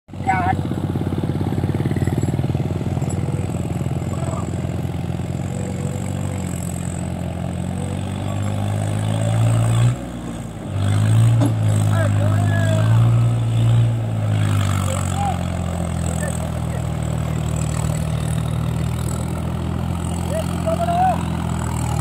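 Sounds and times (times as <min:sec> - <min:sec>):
tractor diesel engine under load: 0:00.1 - 0:22.0.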